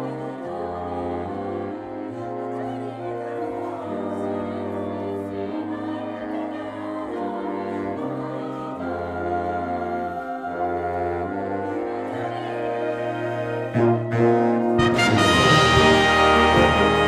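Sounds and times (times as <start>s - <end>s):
wind band playing chords: 0.0s - 17.0s.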